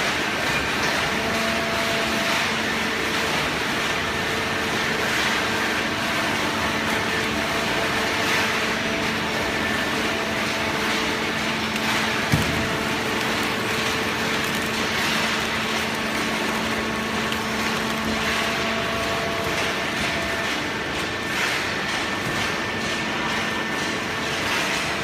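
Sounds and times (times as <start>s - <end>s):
baling press machine hum: 0.0s - 25.0s.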